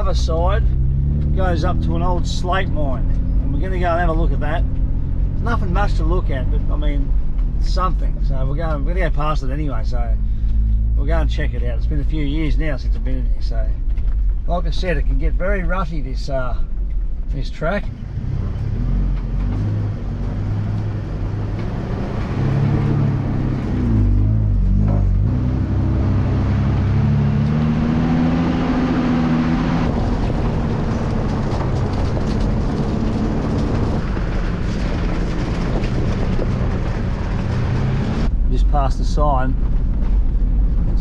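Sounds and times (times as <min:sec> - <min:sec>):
car engine running: 0:00.0 - 0:41.0
road and body noise: 0:00.0 - 0:41.0.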